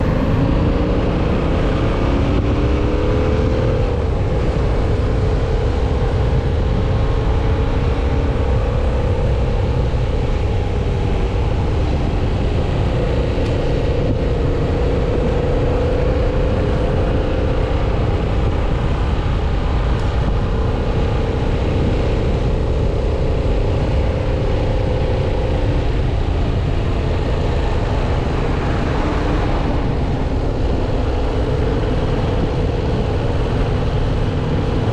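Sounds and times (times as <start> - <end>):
wind rumbling on microphone: 0.0 - 34.9.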